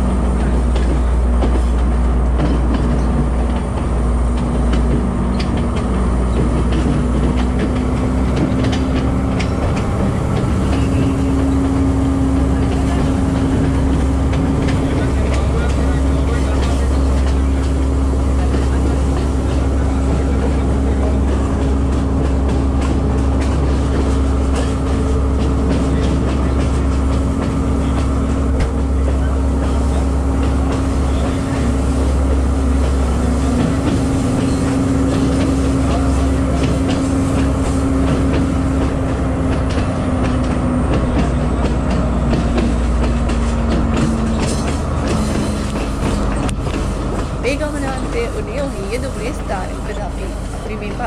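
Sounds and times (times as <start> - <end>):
train wheels and engine rumble: 0.0 - 51.0.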